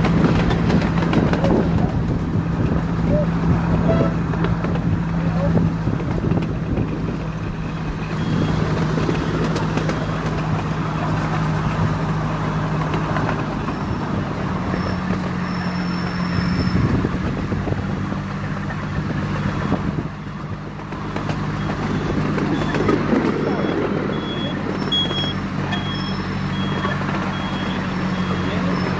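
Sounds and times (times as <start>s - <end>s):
train wheels rolling on track: 0.0s - 2.8s, 4.1s - 17.2s, 18.3s - 28.9s.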